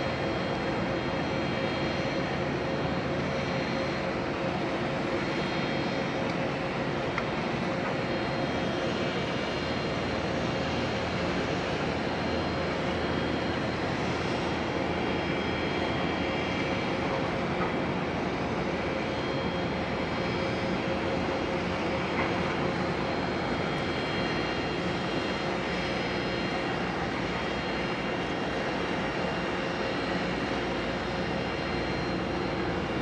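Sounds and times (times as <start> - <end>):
faint whining tones: 0.0 - 33.0
ferry engines droning: 0.0 - 33.0.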